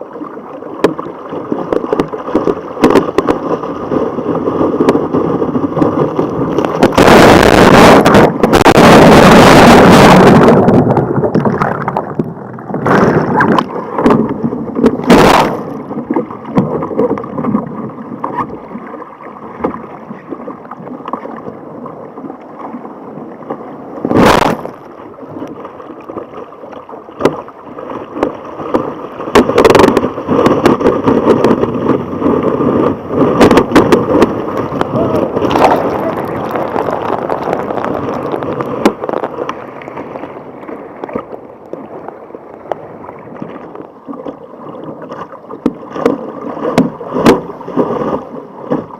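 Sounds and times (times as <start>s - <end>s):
splashes hitting hull and paddle: 0.0s - 48.9s
water rushing around kayak: 0.0s - 48.9s.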